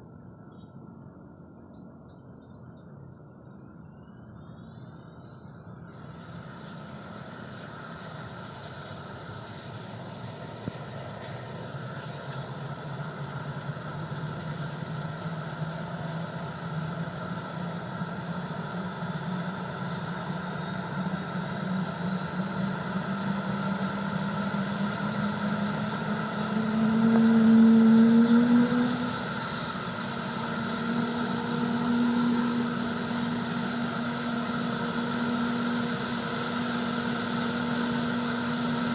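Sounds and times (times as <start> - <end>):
helicopter turbine whine: 3.7 - 38.9.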